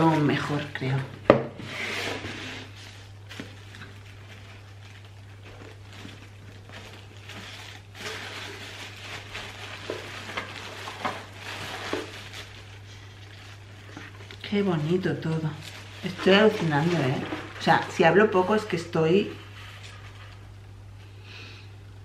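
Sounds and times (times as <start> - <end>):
paper packaging rustling: 1.6 - 20.8.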